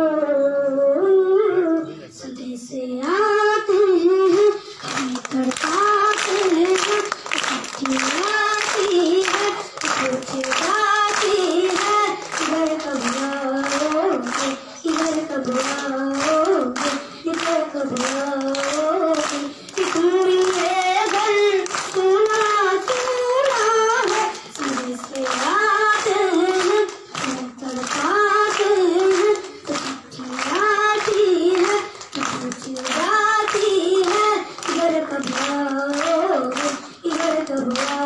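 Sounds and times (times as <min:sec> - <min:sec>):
boy singing into a microphone: 0:00.0 - 0:38.0
hand claps keeping time: 0:03.0 - 0:38.0.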